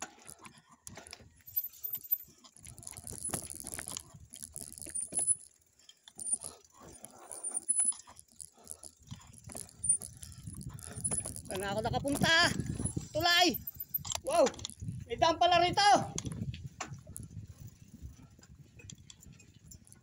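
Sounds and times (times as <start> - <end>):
mountain bike rattling: 0.0 - 20.0.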